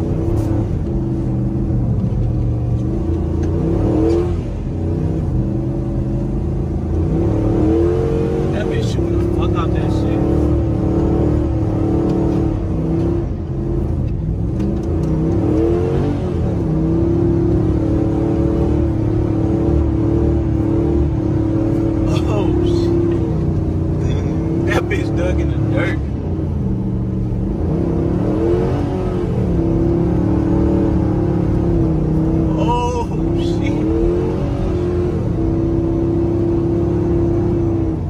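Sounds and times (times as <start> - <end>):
truck engine revving: 0.0 - 38.0.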